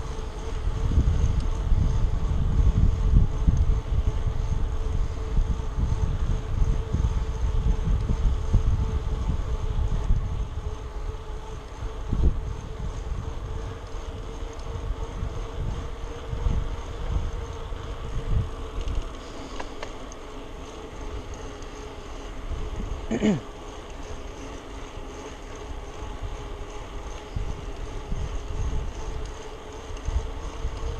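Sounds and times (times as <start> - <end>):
wind buffeting microphone: 0.0 - 19.1, 20.6 - 23.1, 25.2 - 30.9
steady hum: 0.0 - 30.9.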